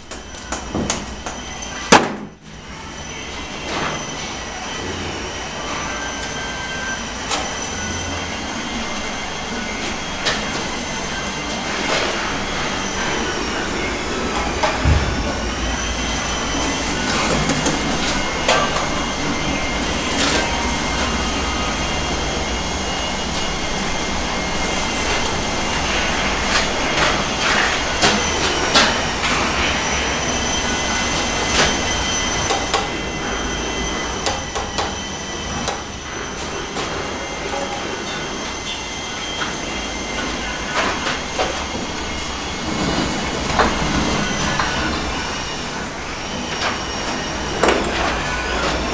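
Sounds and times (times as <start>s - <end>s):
electric mortar mixer whining: 0.0s - 48.9s.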